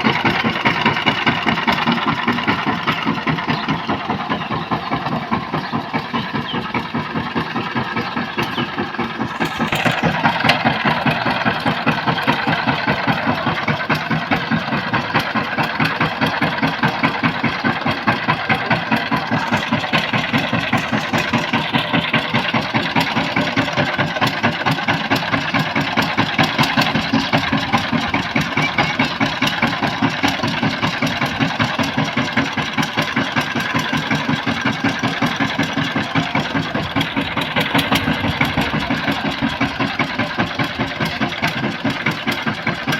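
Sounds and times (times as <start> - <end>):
diesel tiller engine running: 0.0 - 42.9.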